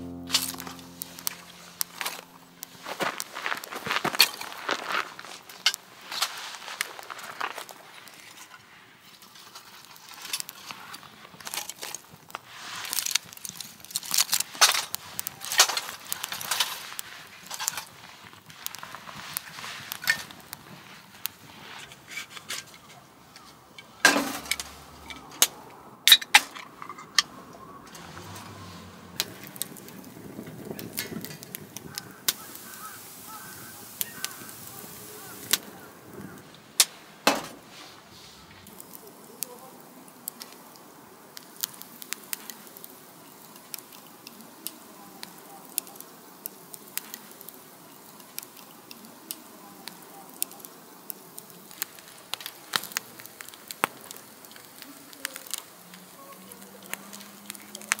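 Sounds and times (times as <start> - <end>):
twigs crackling in fire: 0.0 - 58.0.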